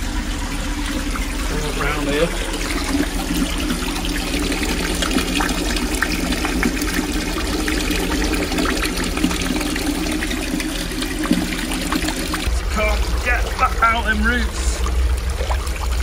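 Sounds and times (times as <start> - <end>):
steady low hum: 0.0 - 16.0
water trickling into manhole: 0.0 - 16.0.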